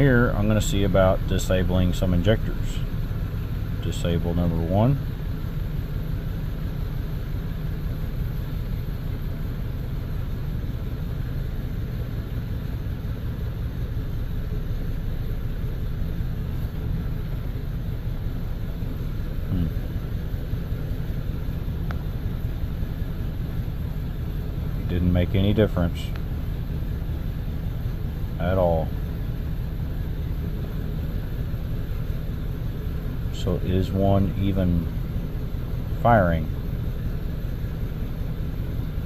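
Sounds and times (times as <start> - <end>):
misfiring engine running: 0.0 - 39.0.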